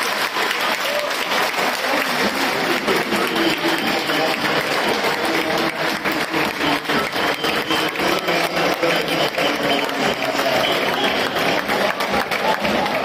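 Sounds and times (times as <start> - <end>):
crowd applauding: 0.0 - 13.0
crowd voices: 0.0 - 13.0.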